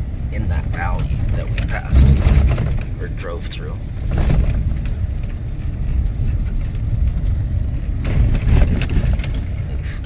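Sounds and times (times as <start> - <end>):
vehicle driving on rough road: 0.0 - 10.0
vehicle jolting and rattling: 0.4 - 10.0.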